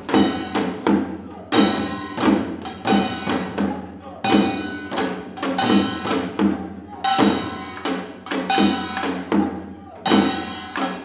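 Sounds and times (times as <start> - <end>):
drum beats: 0.0 - 11.0.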